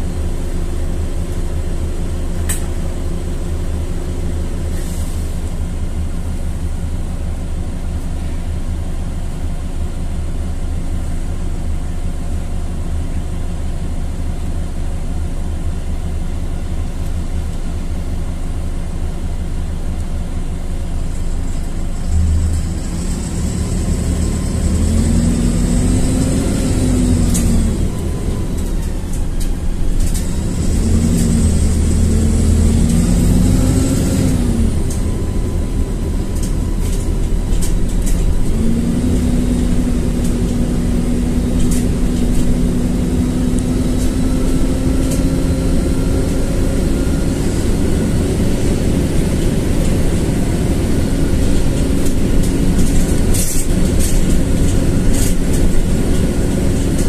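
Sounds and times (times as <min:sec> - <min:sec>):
bus engine pulling: 0:00.0 - 0:57.0.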